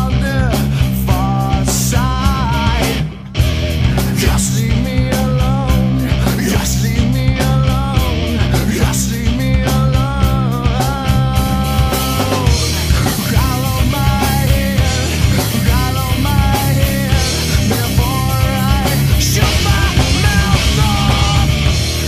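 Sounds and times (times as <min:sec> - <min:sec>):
metal band playing: 0:00.0 - 0:22.0.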